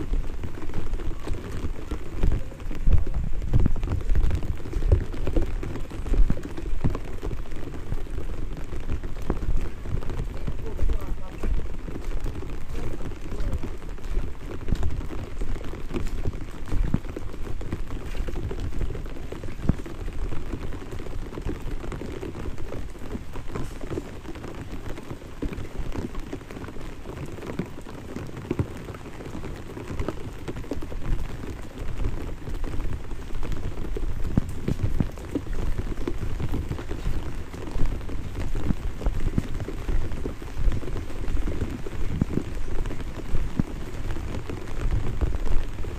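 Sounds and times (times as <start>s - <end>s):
light rain pattering: 0.0s - 45.9s.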